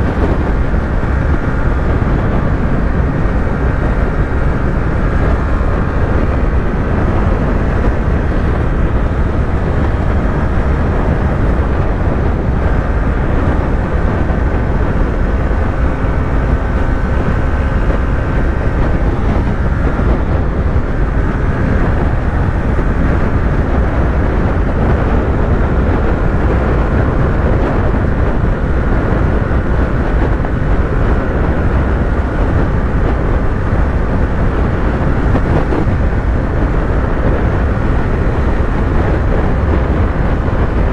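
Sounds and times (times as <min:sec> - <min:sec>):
motorcycle engine cruising: 0:00.0 - 0:40.9
wind noise: 0:00.0 - 0:40.9.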